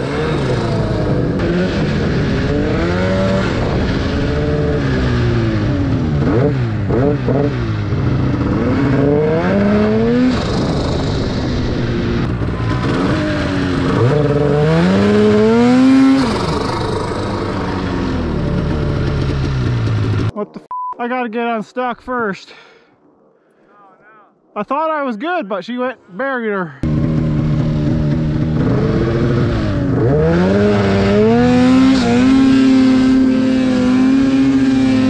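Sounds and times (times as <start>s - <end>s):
snowmobile engine revving: 0.0s - 20.4s, 26.2s - 35.0s.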